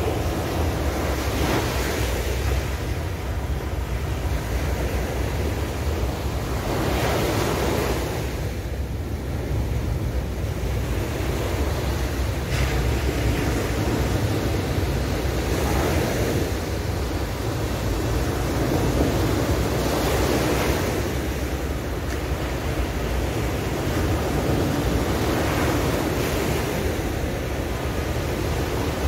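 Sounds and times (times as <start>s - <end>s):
sea waves breaking on a beach: 0.0s - 29.0s
wind rumble on microphone: 0.0s - 29.0s.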